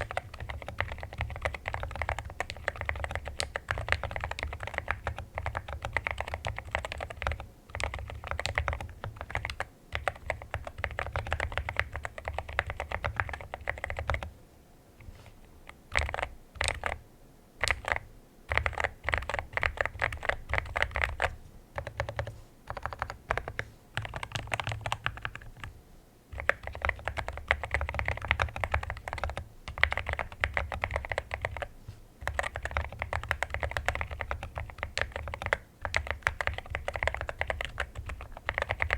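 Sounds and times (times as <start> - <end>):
mechanical keyboard typing: 0.0 - 14.3, 15.9 - 17.0, 17.6 - 25.7, 26.3 - 38.9.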